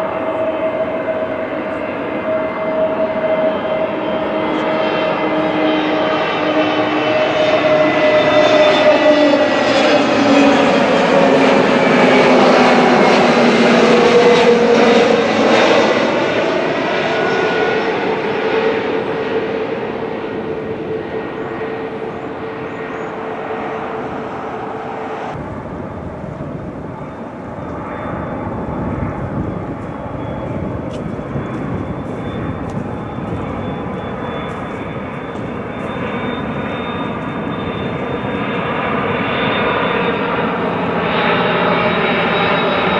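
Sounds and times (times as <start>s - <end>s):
jet airliner passing: 0.0s - 42.9s
jet engine with high whine: 0.0s - 42.9s.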